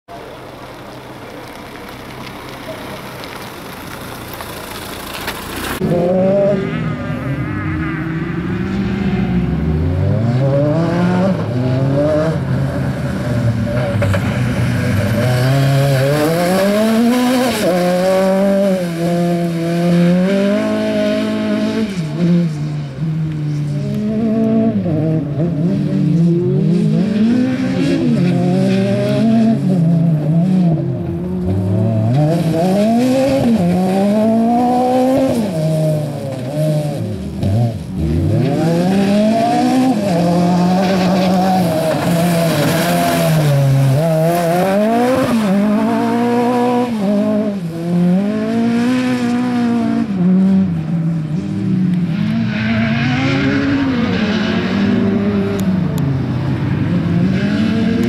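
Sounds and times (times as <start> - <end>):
car engine revving: 4.6 - 22.6, 23.8 - 58.0.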